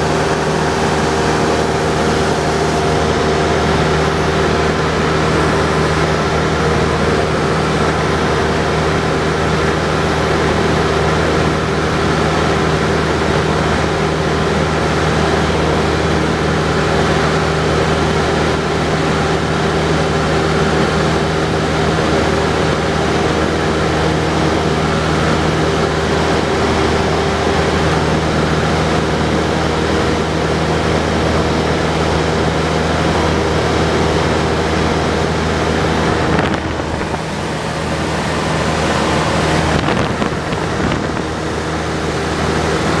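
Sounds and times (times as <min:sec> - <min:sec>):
aircraft engine drone in cabin: 0:00.0 - 0:43.0.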